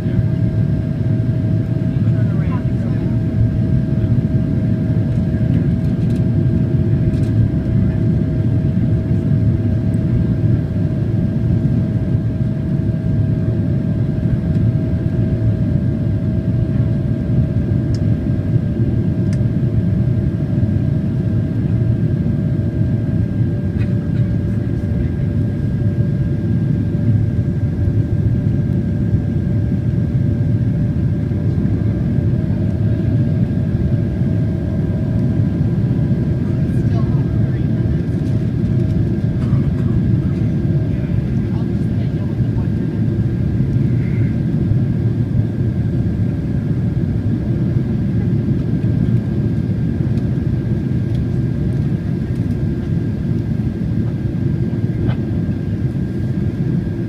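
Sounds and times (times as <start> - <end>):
airliner cabin rumble: 0.0 - 57.0
constant whine: 0.0 - 57.0.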